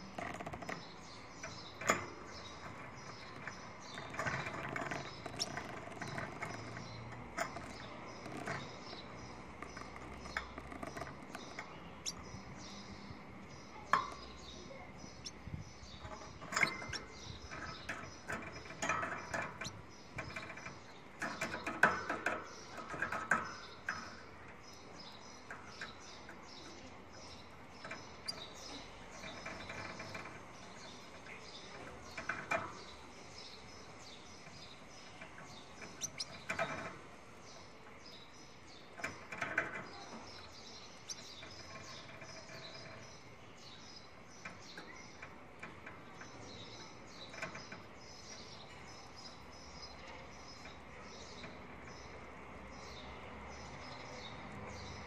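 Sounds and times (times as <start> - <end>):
cage birds chirping: 0.0 - 55.0
louder bird calls or clatter: 0.0 - 55.0.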